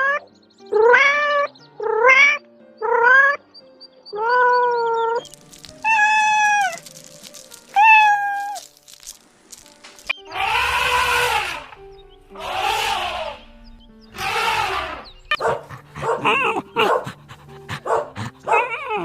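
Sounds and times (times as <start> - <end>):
animal crying: 0.0 - 3.4, 4.1 - 7.1, 7.7 - 8.7, 10.2 - 19.0.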